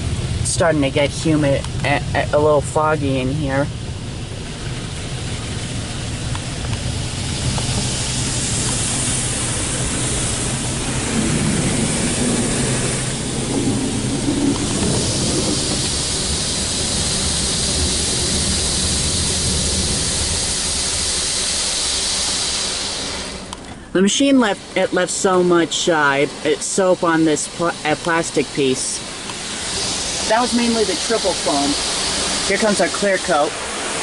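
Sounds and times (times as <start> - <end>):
steady low hum: 0.0 - 34.0
water spray hissing against car: 0.0 - 34.0.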